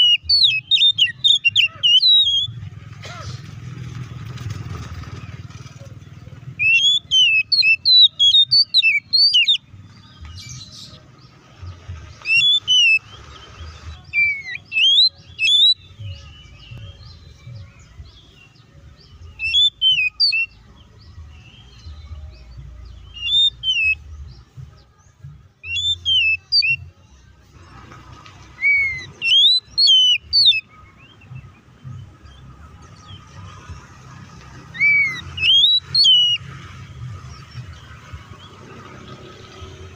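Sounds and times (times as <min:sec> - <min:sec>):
bird singing whistled notes: 0:00.0 - 0:02.6, 0:06.5 - 0:27.0, 0:28.4 - 0:33.3, 0:34.6 - 0:39.9.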